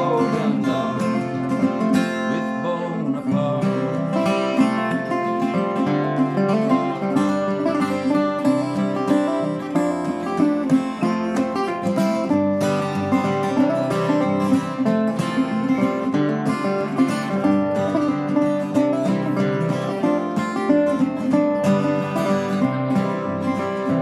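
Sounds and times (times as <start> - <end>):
two acoustic guitars playing: 0.0 - 24.0.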